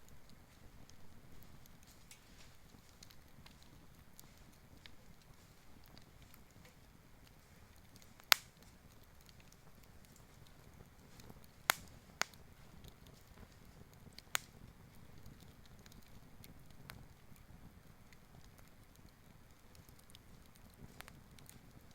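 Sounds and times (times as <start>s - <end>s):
campfire crackling: 0.0s - 21.9s
sharp pops of fire: 0.3s - 21.9s.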